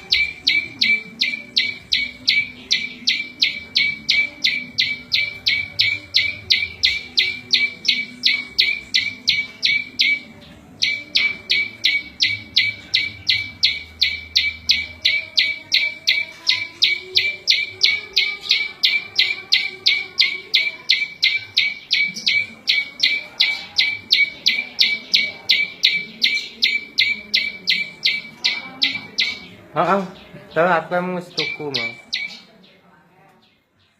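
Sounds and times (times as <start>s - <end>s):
bird high chip notes: 0.0s - 32.6s.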